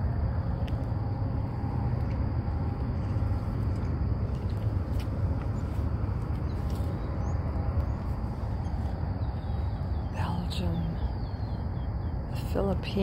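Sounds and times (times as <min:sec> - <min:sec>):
low fluttering outdoor rumble: 0:00.0 - 0:13.0.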